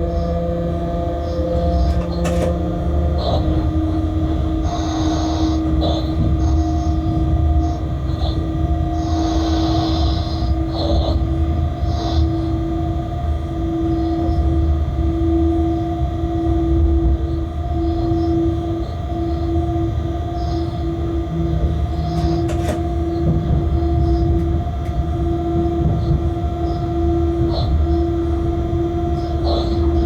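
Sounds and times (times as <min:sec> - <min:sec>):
locomotive cab rumble: 0:00.0 - 0:30.0.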